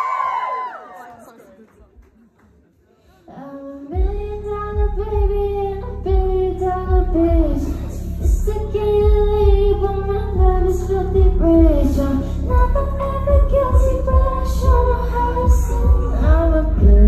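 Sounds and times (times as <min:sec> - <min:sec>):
woman singing: 0:03.3 - 0:17.0.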